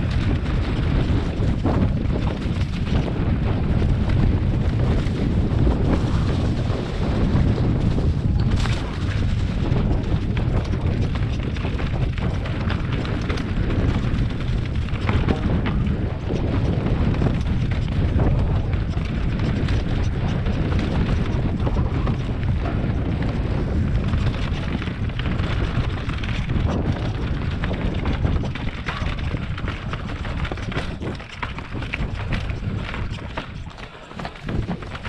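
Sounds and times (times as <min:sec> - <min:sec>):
bike clattering: 0:00.0 - 0:35.0
wind buffeting microphone: 0:00.0 - 0:35.0.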